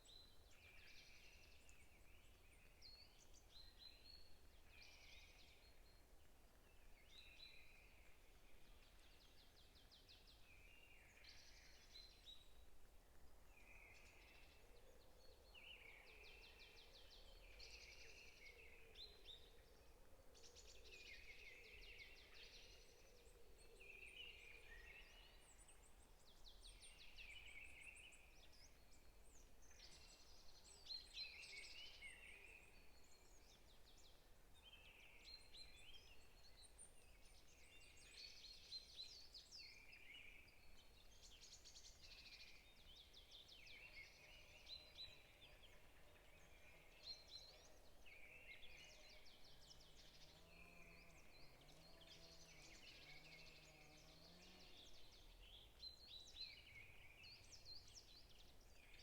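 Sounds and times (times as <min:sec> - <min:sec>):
faint songbirds chirping: 0:00.0 - 0:59.0.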